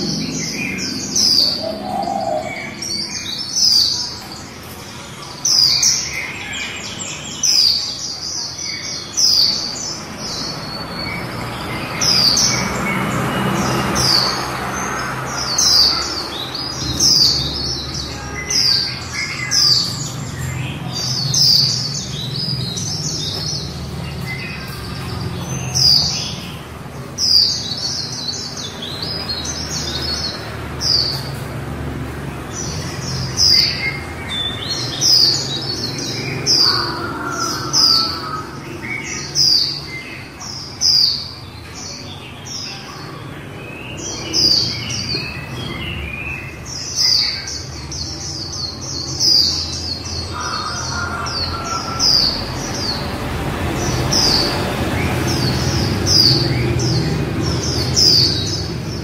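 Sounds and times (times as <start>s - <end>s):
bird chirping high calls: 0.0s - 31.5s, 32.4s - 59.0s.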